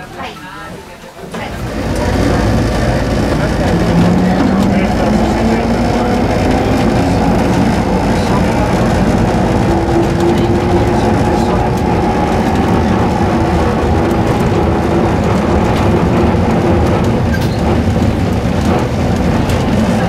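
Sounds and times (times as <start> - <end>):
tram rumbling along track: 0.0 - 20.0.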